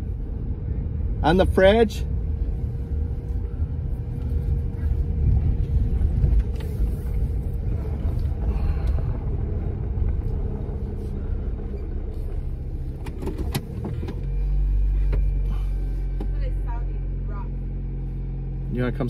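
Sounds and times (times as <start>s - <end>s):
car engine and road drone: 0.0s - 19.0s.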